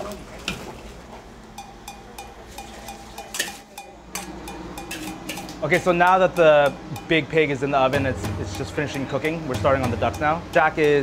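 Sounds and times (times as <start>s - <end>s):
ladle clinking against metal pot: 1.6s - 11.0s.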